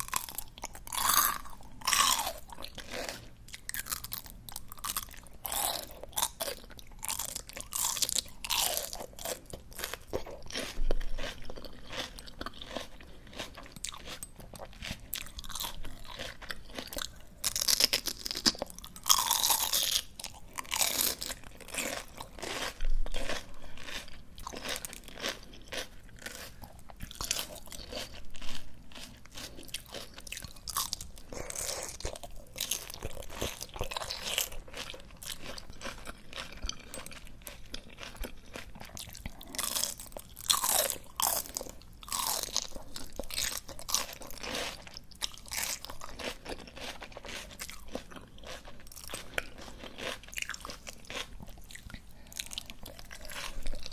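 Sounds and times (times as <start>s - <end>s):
chewing crisp greens: 0.0s - 53.9s.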